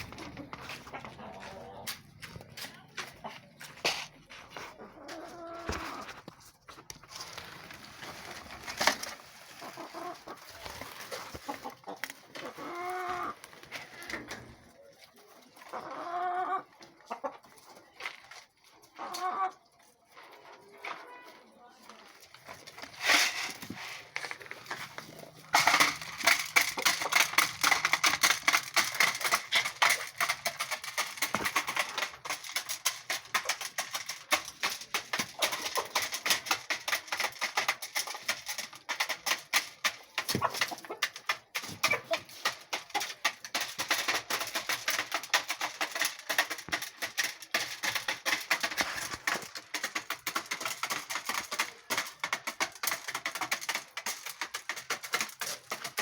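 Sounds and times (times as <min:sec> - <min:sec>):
chickens pecking corn: 0:00.0 - 0:56.0.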